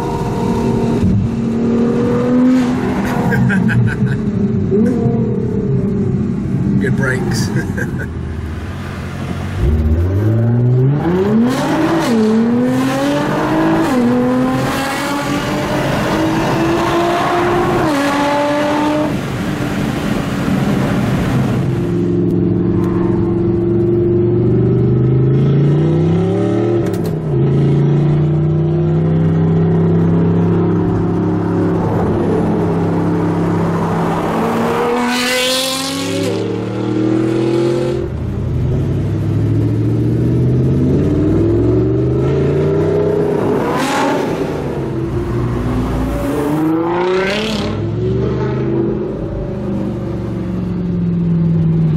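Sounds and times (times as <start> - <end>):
sports car engine accelerating: 0.0 - 51.9.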